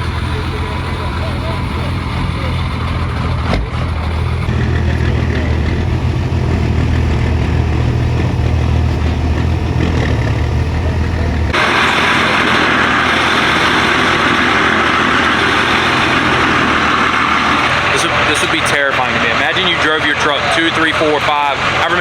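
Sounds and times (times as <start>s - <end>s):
broad rushing noise: 0.0s - 22.0s
truck engine running: 0.0s - 22.0s.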